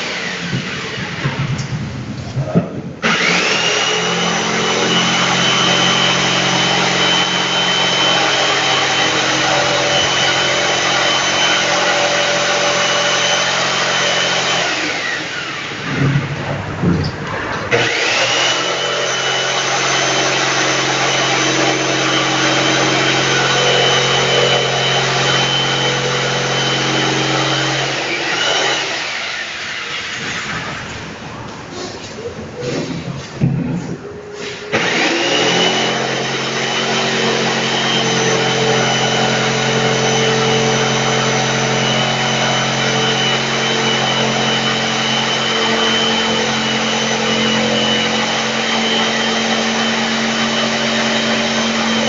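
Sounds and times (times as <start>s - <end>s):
electric jigsaw cutting wood: 0.0s - 1.4s, 3.0s - 16.1s, 17.7s - 30.4s, 34.7s - 52.0s.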